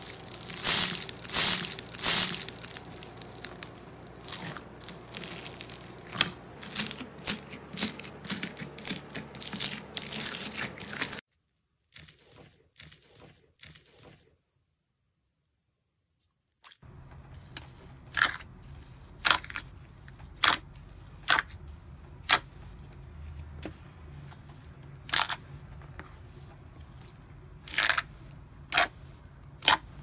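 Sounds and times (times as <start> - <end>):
low steady hum: 0.0 - 11.2, 16.8 - 30.0.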